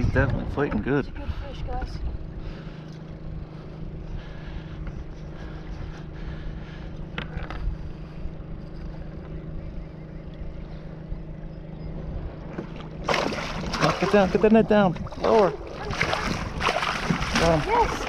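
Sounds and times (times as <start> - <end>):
steady low hum: 0.0 - 18.0
water around kayak: 0.0 - 18.0
wind rumbling on microphone: 0.0 - 18.0.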